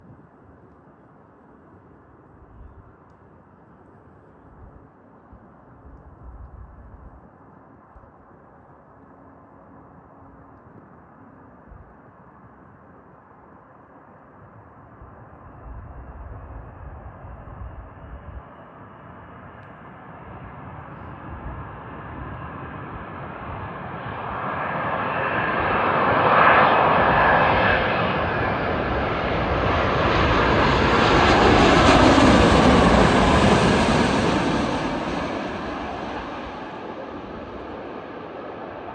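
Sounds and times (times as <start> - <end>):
jet engines passing close: 0.2 - 38.9.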